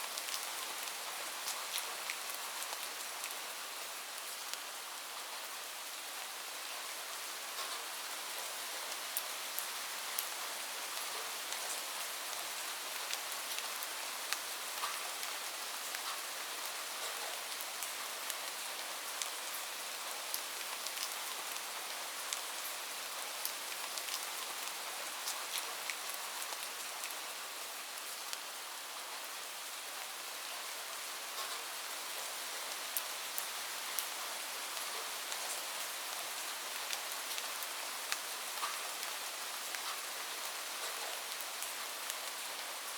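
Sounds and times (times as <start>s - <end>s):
light rain falling: 0.0s - 42.9s.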